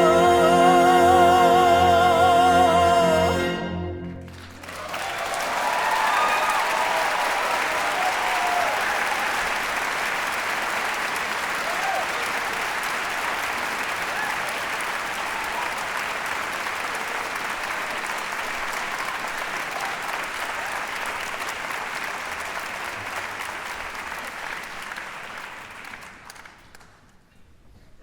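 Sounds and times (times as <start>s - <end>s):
audience applauding: 4.2s - 27.1s.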